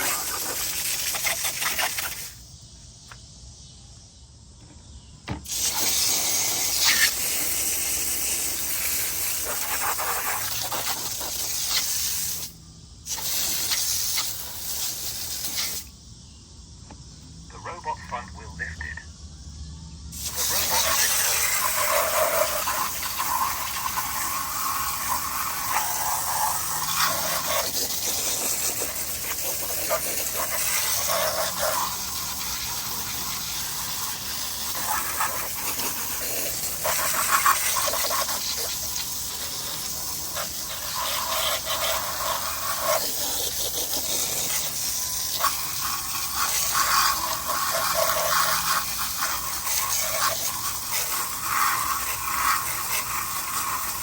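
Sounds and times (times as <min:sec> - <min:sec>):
water spraying and splashing: 0:00.0 - 0:02.4, 0:05.5 - 0:15.9, 0:20.2 - 0:54.0.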